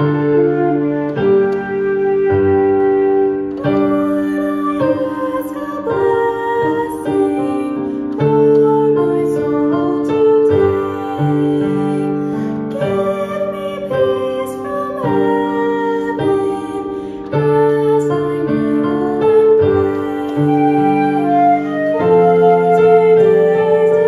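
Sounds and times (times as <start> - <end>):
piano chords: 0.0 - 24.0
woman singing a hymn: 3.6 - 24.0.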